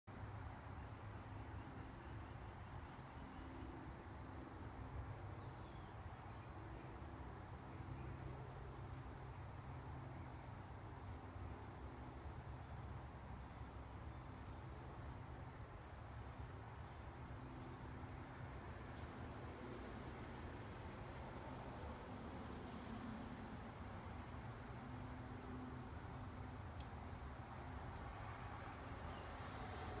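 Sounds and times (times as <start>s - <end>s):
insects trilling: 0.1s - 30.0s.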